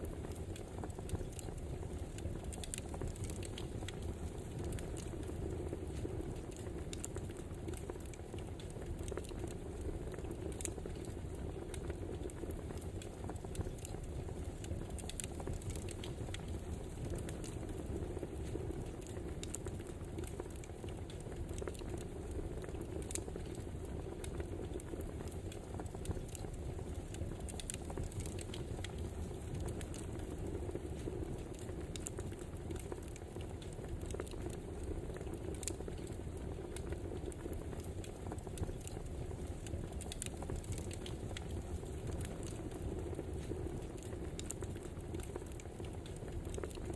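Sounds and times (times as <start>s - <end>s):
fire popping and snapping: 0.0s - 46.9s
wood fire crackling: 0.0s - 46.9s.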